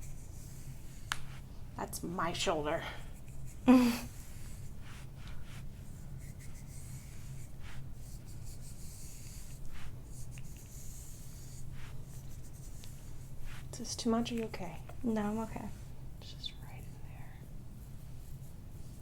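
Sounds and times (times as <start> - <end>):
rubbing strokes on skin: 0.0 - 19.0.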